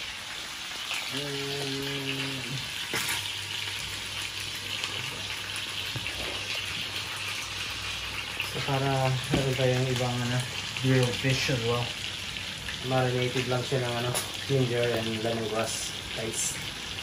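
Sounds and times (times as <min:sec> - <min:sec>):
fish sizzling in frying pan: 0:00.0 - 0:17.0.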